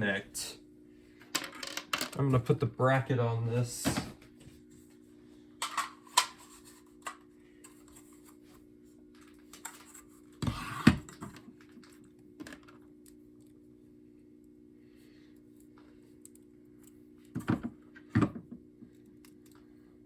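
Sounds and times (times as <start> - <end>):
steady low hum: 0.0 - 1.5, 2.1 - 20.0.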